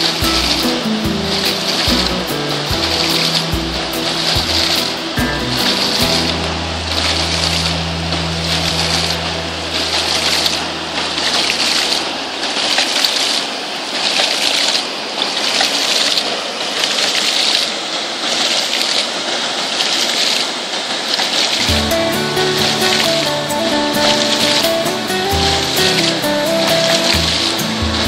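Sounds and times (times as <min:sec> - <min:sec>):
water gushing from pump valve: 0:00.0 - 0:28.0.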